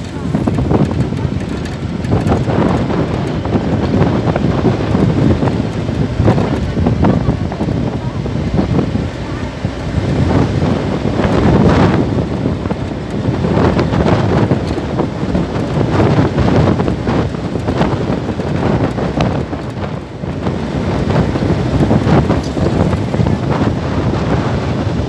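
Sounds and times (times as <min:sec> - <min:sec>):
road and vehicle noise: 0:00.0 - 0:25.0
wind buffeting microphone: 0:00.0 - 0:25.0.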